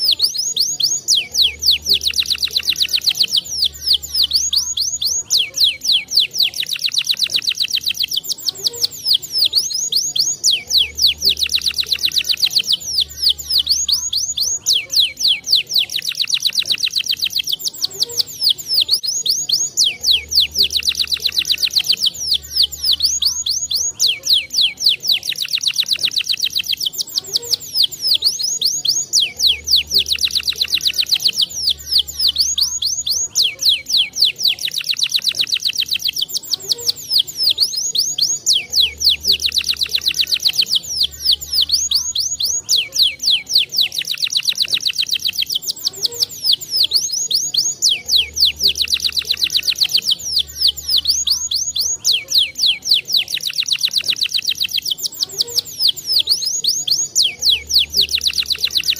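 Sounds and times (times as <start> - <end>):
canary singing trills: 0.0 - 58.9.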